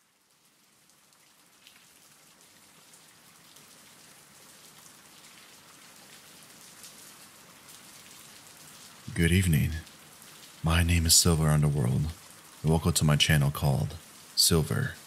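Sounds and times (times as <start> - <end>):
rain falling on a surface: 0.0 - 15.0.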